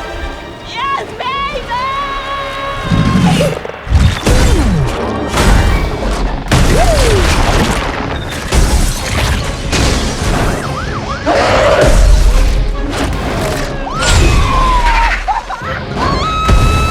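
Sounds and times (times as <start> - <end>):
dramatic film score: 0.0 - 16.9.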